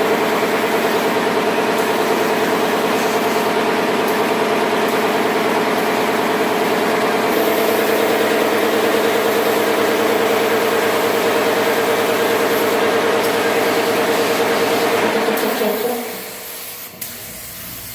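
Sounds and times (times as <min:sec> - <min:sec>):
machine motor humming: 0:00.0 - 0:16.2.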